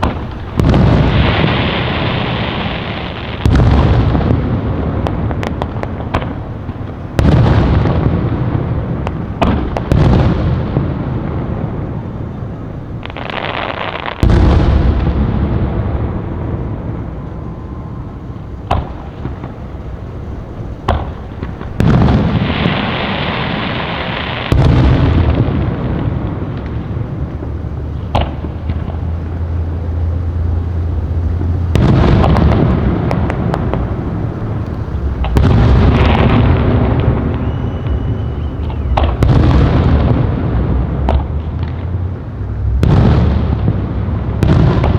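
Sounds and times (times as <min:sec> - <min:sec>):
firework shell booms: 0:00.0 - 0:12.2, 0:13.0 - 0:17.3, 0:18.5 - 0:20.1, 0:20.7 - 0:41.9, 0:42.6 - 0:44.9
firework hissing: 0:00.0 - 0:44.9
sharp firework cracks: 0:00.0 - 0:44.9.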